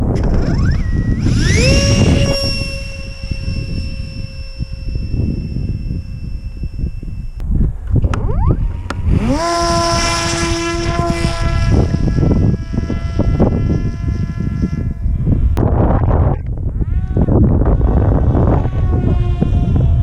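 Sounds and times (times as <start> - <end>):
electric propeller motor whining: 0.0 - 15.6, 16.5 - 20.0
wind noise on microphone: 0.0 - 20.0.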